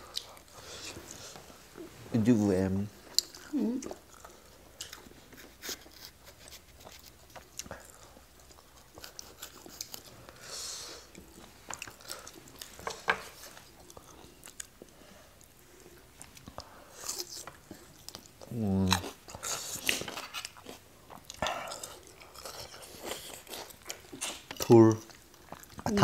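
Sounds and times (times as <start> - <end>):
chewing crunchy pepper: 3.0 - 10.4, 11.0 - 25.9.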